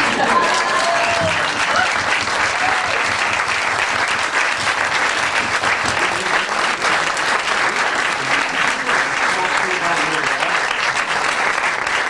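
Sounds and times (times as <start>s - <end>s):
audience clapping: 0.0s - 12.0s.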